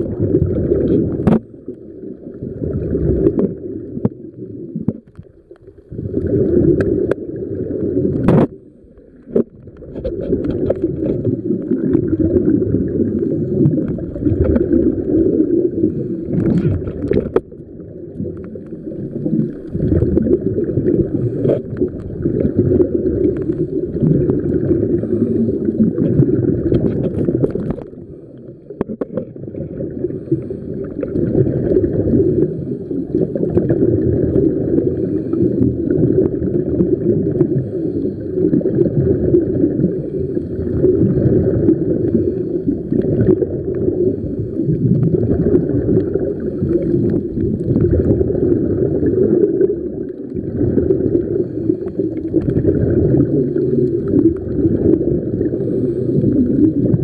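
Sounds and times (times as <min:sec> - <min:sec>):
muffled underwater water rushing: 0:00.0 - 0:57.0.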